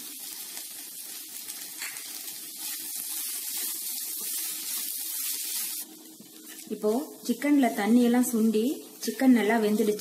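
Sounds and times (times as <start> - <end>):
mince sizzling in a pan: 0.0 - 10.0.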